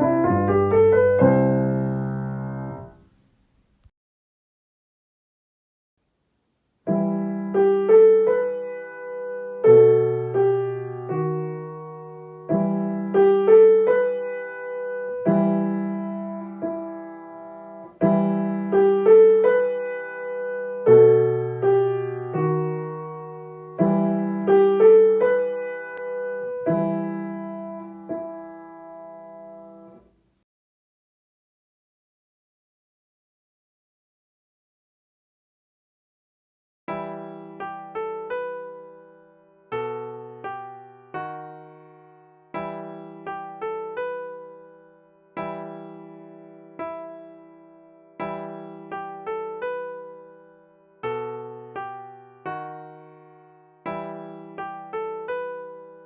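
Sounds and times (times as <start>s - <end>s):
gentle piano melody: 0.0s - 3.1s, 6.9s - 30.1s, 36.9s - 56.0s.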